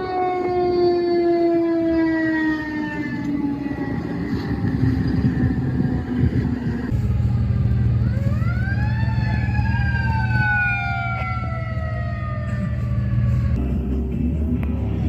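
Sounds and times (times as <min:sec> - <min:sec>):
fire truck siren falling: 0:00.0 - 0:13.6
truck engine drone: 0:00.0 - 0:15.0.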